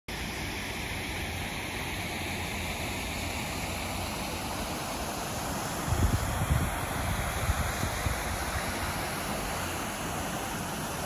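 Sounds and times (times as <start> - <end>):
waterfall rushing water: 0.1 - 11.0.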